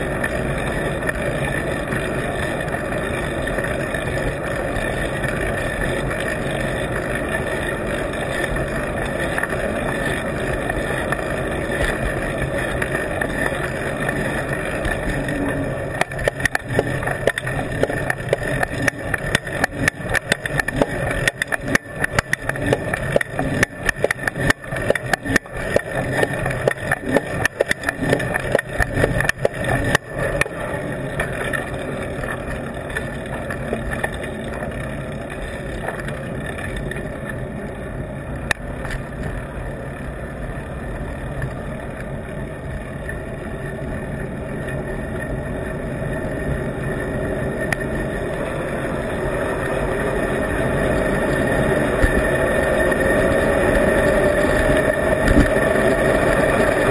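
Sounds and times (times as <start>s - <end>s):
wind and road rush: 0.0s - 56.9s.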